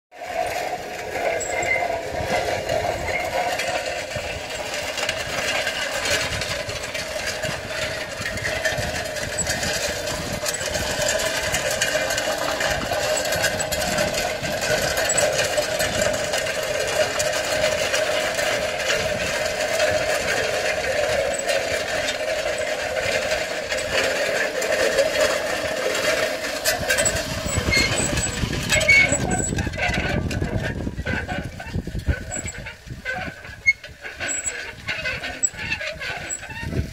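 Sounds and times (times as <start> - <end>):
harrow rattling and scraping on gravel: 0.1 - 36.9.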